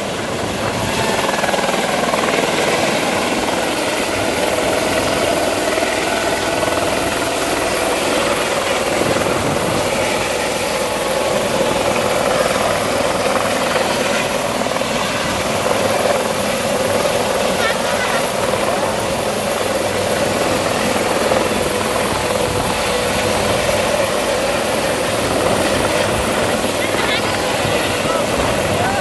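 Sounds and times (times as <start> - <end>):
helicopter rotor hovering: 0.0 - 29.0.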